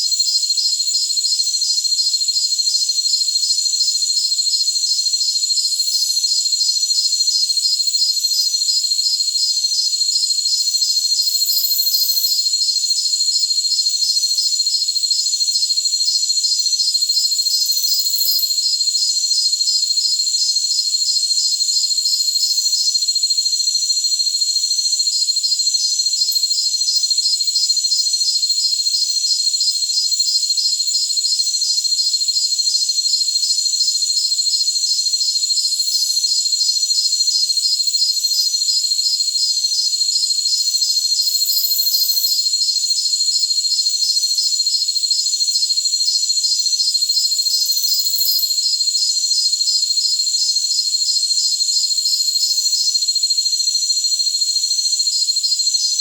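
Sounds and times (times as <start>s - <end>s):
crickets trilling: 0.0s - 56.0s
insect pulsed chirping: 0.1s - 55.8s.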